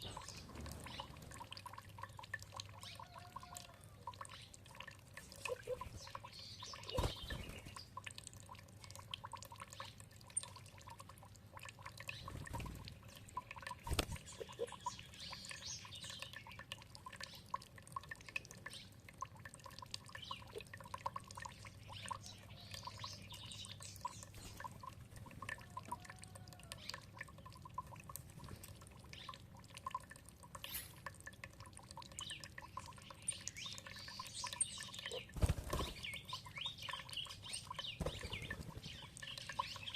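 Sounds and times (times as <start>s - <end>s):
songbirds singing: 0.0s - 8.2s, 9.3s - 19.3s, 20.0s - 31.1s, 31.9s - 39.9s
water dripping and trickling: 0.0s - 39.9s.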